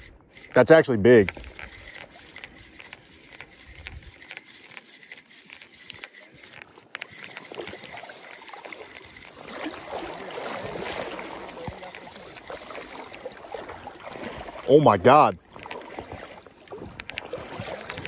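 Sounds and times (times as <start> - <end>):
spinning reel ticking: 0.0 - 14.9
water splashing: 0.0 - 18.0.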